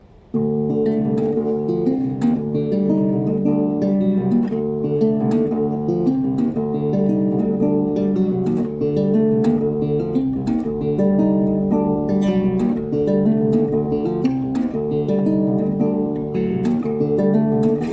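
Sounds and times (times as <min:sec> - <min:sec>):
acoustic guitar plucking: 0:00.0 - 0:17.9.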